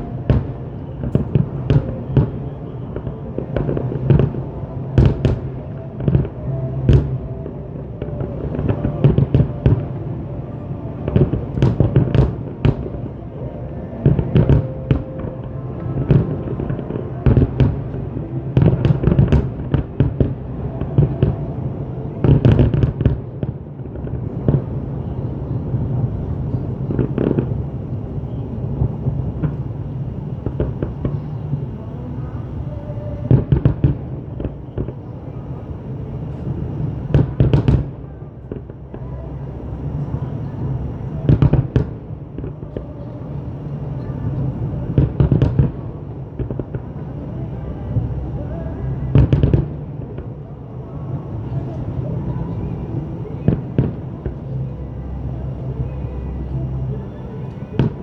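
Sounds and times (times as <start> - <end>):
fireworks bursting with bangs: 0.0 - 56.6, 57.2 - 58.0
voices: 0.0 - 58.0.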